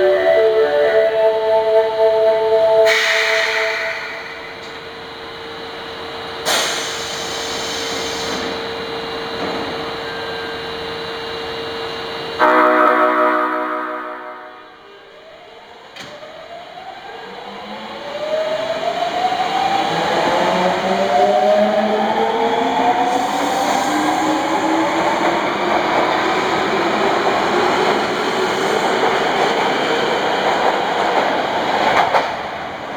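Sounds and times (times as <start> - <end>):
rumble of train wheels: 0.0 - 32.9.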